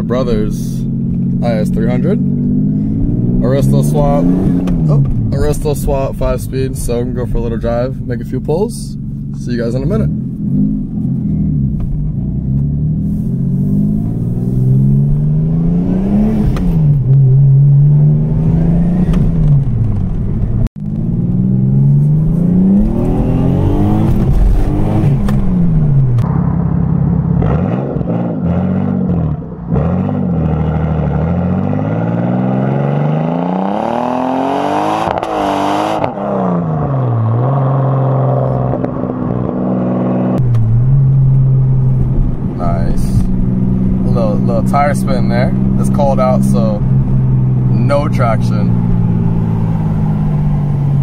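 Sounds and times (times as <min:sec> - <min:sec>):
car engine accelerating through gears: 0:00.0 - 0:06.3, 0:09.8 - 0:51.0.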